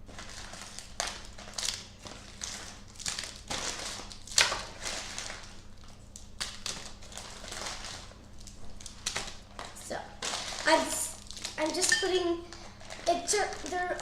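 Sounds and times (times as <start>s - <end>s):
candy wrapper crinkles: 0.0s - 14.0s.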